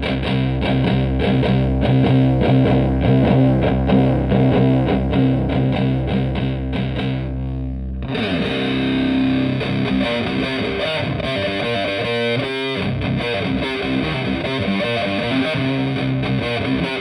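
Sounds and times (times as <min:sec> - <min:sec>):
distorted electric guitar chords: 0:00.0 - 0:17.0
quick guitar notes: 0:00.0 - 0:17.0.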